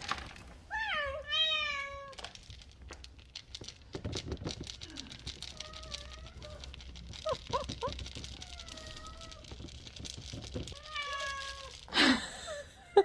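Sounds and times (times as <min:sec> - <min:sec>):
cat litter being scooped: 0:00.0 - 0:13.0.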